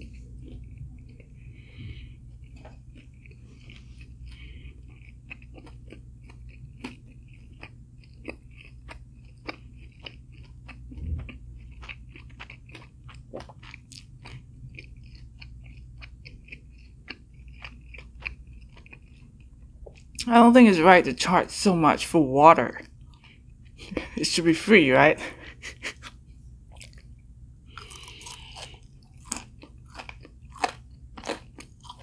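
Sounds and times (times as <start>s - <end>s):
chewing crispy food: 0.0s - 21.2s, 22.6s - 24.4s, 25.3s - 32.0s
steady low hum: 0.0s - 32.0s.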